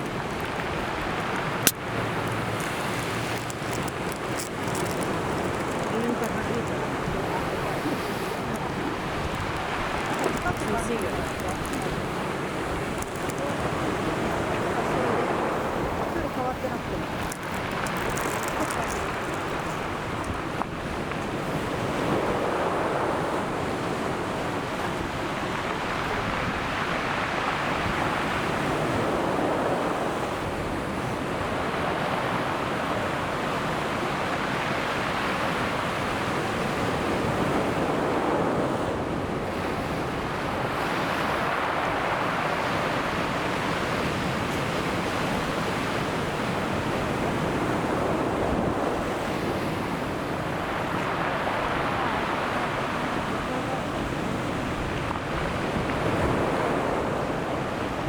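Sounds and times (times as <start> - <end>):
ocean surf breaking on shore: 0.0 - 58.0.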